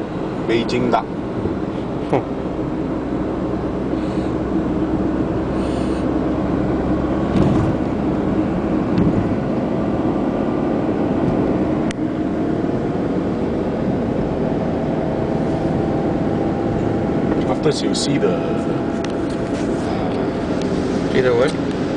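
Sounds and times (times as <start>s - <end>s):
car engine and road noise: 0.0s - 21.9s.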